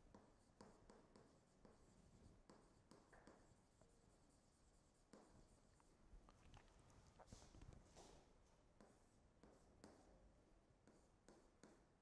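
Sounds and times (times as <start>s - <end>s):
stylus tapping and scratching on screen: 0.1s - 10.2s, 10.8s - 11.9s.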